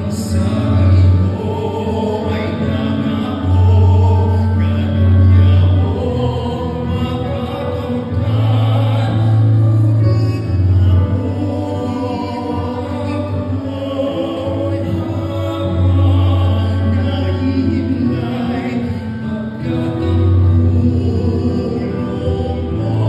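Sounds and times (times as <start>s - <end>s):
amplified backing accompaniment: 0.0s - 23.0s
men singing a hymn: 0.0s - 23.0s.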